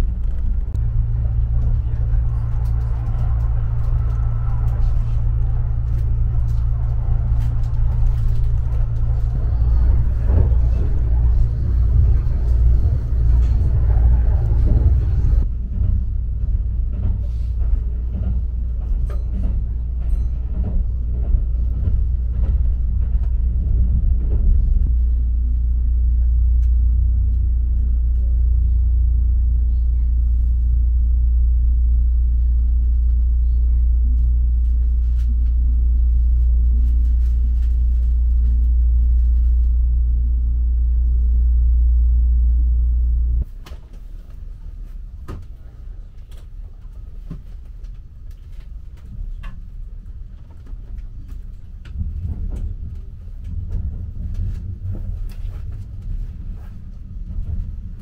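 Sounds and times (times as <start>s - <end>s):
train cabin low rumble: 0.0s - 58.0s.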